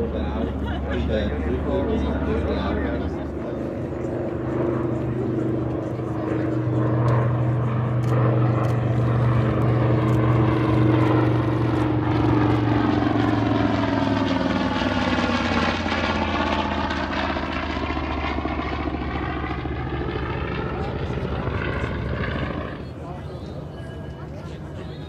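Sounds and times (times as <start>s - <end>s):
propeller aircraft engine droning: 0.0s - 25.0s.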